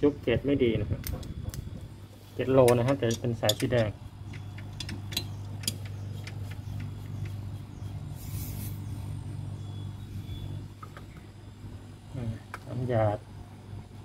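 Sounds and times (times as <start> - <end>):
refrigerator compressor humming: 0.0 - 14.0.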